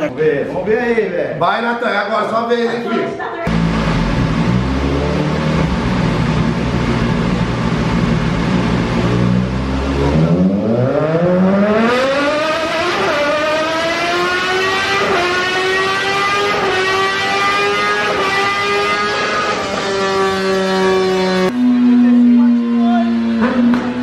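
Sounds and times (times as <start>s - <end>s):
motorcycle engine revving: 3.5s - 24.0s.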